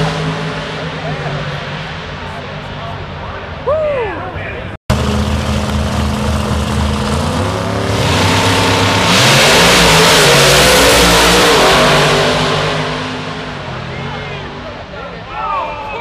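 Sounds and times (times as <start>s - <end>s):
drag car engines revving: 0.0s - 3.7s, 4.9s - 15.6s.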